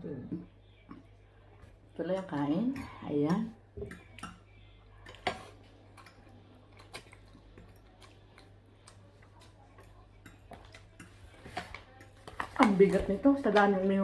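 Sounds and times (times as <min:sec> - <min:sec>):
quiet chewing: 0:00.8 - 0:13.0.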